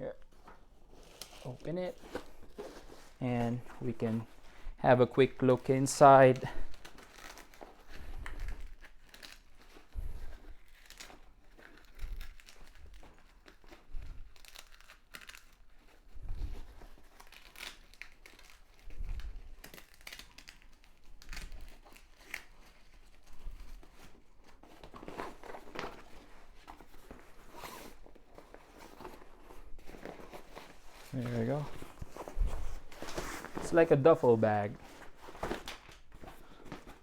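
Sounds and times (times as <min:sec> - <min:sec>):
packaging crinkling and tearing: 0:00.2 - 0:37.0.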